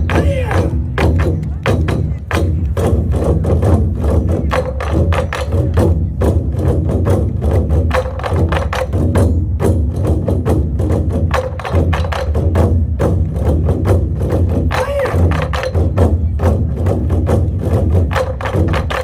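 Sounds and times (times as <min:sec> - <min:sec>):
drum ensemble fast rhythm: 0:00.0 - 0:19.0.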